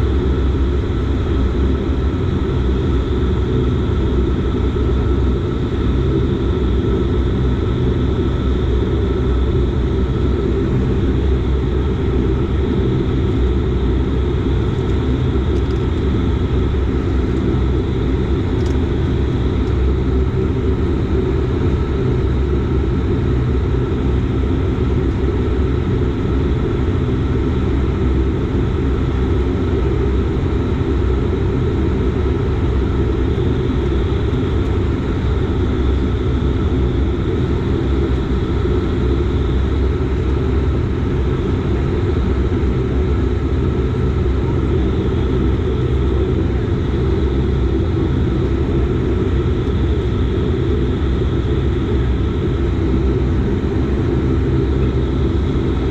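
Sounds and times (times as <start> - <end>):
turboprop engines droning: 0.0 - 55.9.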